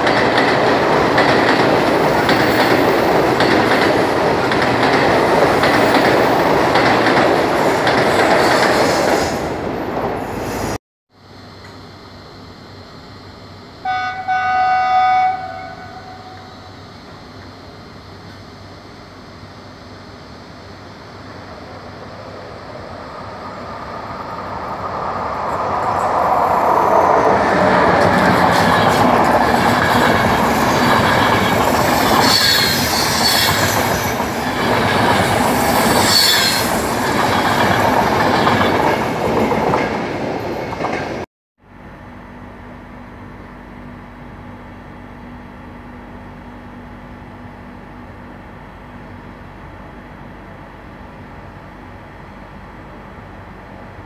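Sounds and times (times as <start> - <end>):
passenger train passing: 0.0 - 10.8, 11.4 - 41.3, 41.9 - 54.0.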